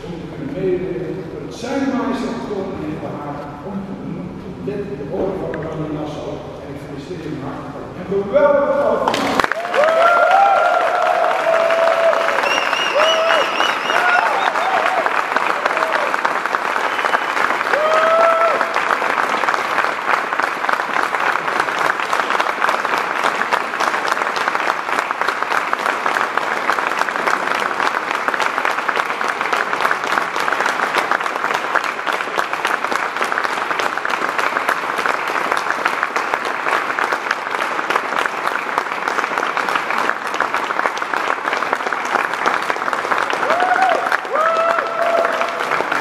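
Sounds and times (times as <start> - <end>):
audience applauding: 9.1 - 46.0.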